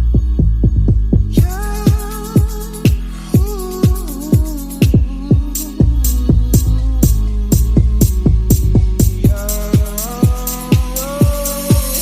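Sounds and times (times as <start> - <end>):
hi-hats: 0.0 - 12.0
kick drum: 0.0 - 12.0
sustained bass line: 0.0 - 12.0.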